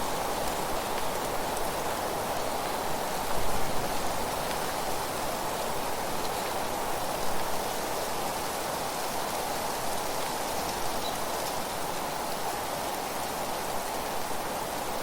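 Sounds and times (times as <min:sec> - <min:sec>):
wind rushing through leaves: 0:00.0 - 0:15.0.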